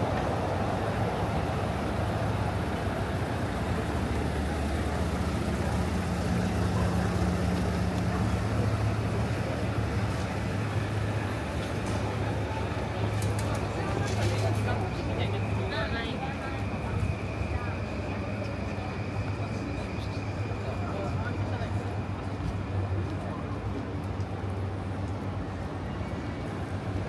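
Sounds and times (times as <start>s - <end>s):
car engines: 0.0s - 27.0s
low engine hum: 0.0s - 27.0s
tyre noise on road: 0.0s - 27.0s.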